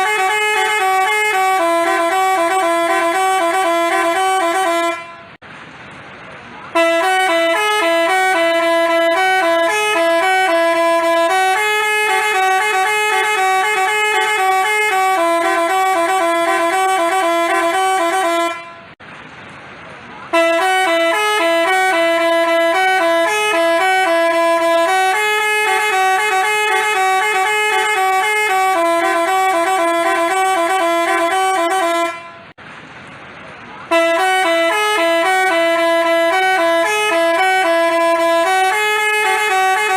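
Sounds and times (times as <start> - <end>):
multi-tone bus horn melody: 0.0 - 5.4, 6.7 - 19.0, 20.3 - 32.6, 33.8 - 39.9.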